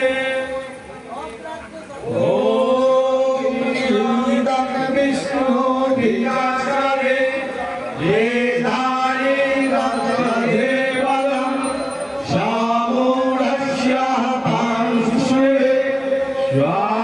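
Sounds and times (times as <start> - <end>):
person chanting mantra: 2.1 - 17.0.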